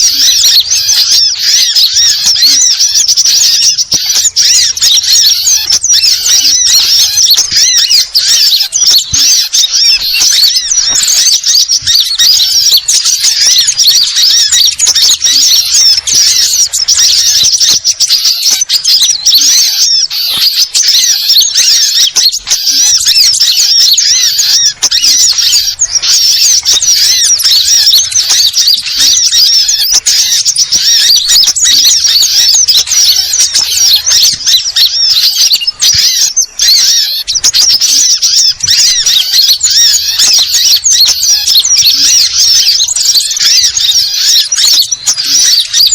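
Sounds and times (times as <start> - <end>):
small birds chattering: 0.0 - 45.9.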